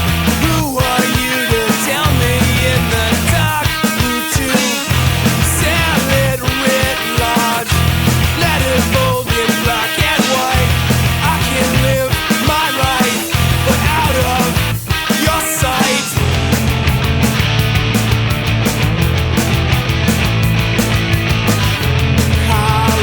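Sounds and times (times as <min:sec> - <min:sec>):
punk rock band music: 0:00.0 - 0:23.0.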